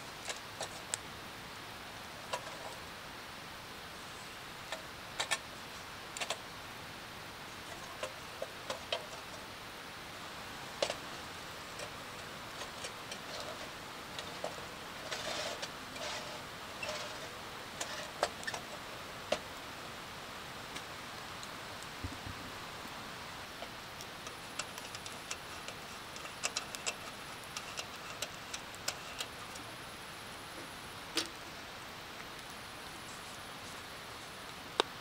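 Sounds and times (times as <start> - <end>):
fire hiss: 0.0 - 35.0
wood fire crackling: 0.0 - 35.0.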